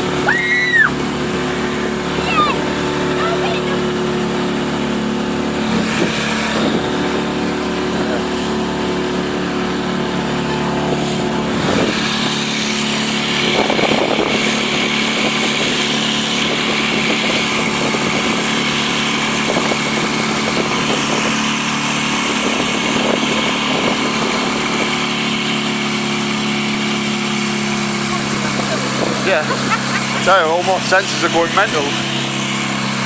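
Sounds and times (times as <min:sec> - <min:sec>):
motorboat engine droning: 0:00.0 - 0:33.0.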